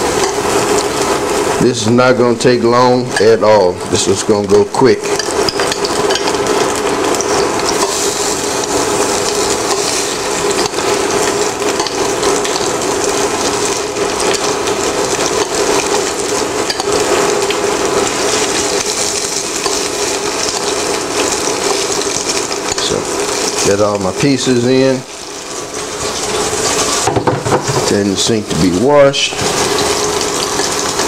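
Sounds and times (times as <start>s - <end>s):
fish sizzling in oil: 0.0s - 31.0s.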